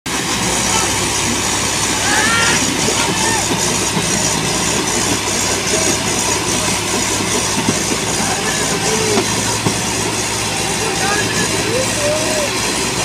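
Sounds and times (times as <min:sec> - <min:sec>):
diesel tractor engines under load: 0:00.0 - 0:13.0.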